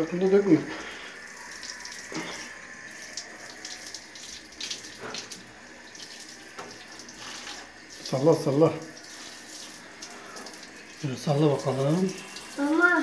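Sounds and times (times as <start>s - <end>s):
shower water spraying on tiles: 0.0s - 13.0s.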